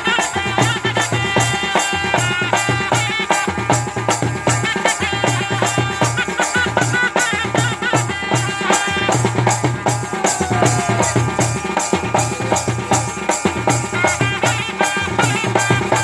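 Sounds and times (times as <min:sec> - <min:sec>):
drums beating fast: 0:00.0 - 0:16.0
wavering wind instrument melody: 0:00.0 - 0:16.0.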